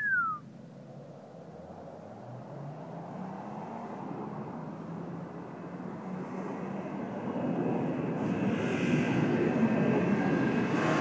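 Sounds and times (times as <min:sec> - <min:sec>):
distant car engine running hard: 0:00.4 - 0:11.0.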